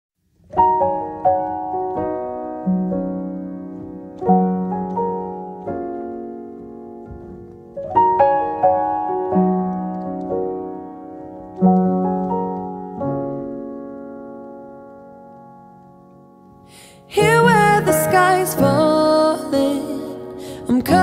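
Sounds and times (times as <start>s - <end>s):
slow gentle piano chords: 0.3s - 21.0s.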